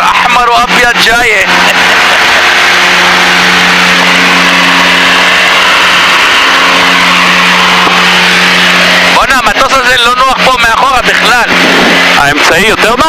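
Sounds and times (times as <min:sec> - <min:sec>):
aircraft engines droning in cabin: 0:00.0 - 0:13.0.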